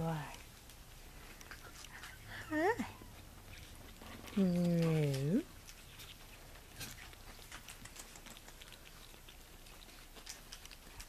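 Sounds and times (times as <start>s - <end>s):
puppies moving on a bedsheet: 0.0s - 11.0s.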